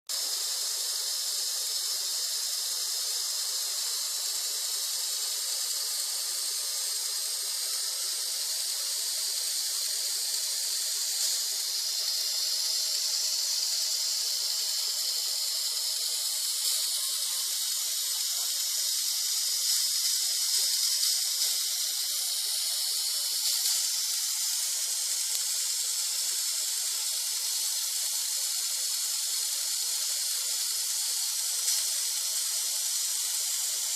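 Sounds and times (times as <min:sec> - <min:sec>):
small toy motor whirring: 0:00.1 - 0:33.9.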